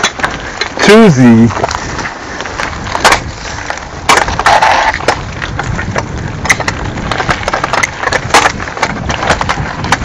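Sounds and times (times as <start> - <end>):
bike rattling over rocks: 0.0 - 10.0.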